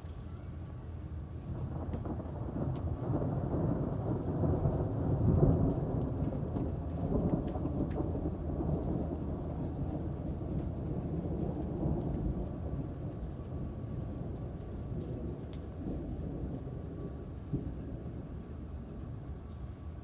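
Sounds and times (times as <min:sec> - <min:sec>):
raindrop ticks: 0:00.0 - 0:20.0
steady rain: 0:00.0 - 0:20.0
rolling thunder: 0:01.4 - 0:20.0.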